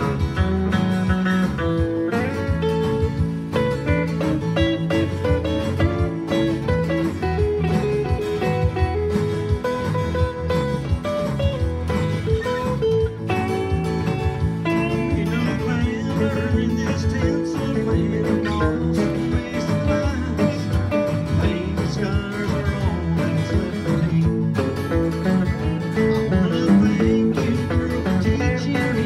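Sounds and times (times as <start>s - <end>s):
acoustic guitars strumming: 0.0s - 29.0s
electric guitar lead with bent notes: 0.0s - 29.0s.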